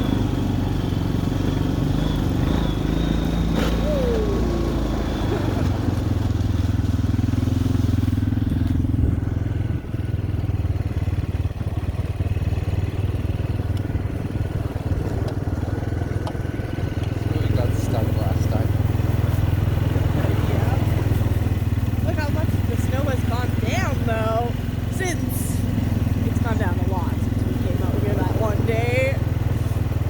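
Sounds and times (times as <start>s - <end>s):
quad engine droning: 0.0s - 30.0s.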